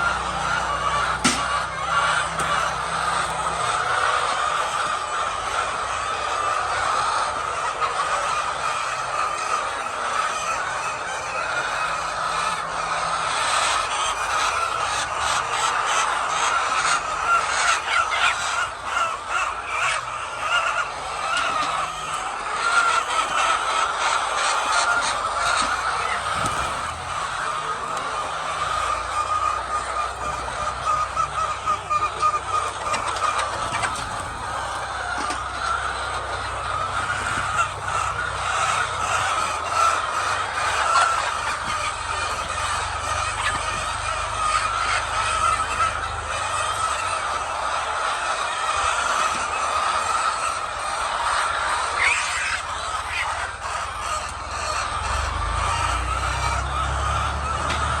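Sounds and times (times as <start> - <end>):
chickens clucking: 0.0 - 58.0
flock of hens calling: 0.0 - 58.0.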